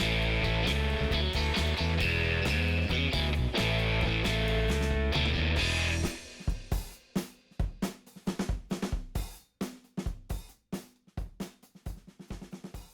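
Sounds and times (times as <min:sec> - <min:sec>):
drum kit playing: 0:00.0 - 0:12.9.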